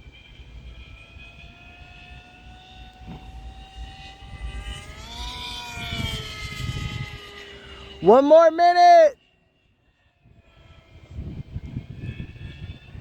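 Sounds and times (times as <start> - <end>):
model airplane motor whining: 0.0 - 13.0.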